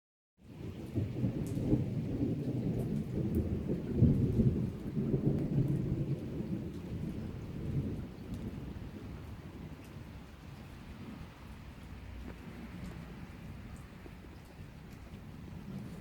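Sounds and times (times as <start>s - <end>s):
rain falling: 0.4s - 16.0s
thunder rumbling: 0.5s - 16.0s.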